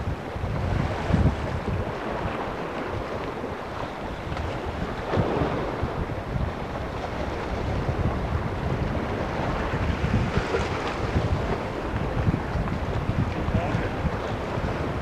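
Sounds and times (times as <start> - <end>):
sea water washing: 0.0 - 15.0
wind buffeting microphone: 0.0 - 15.0.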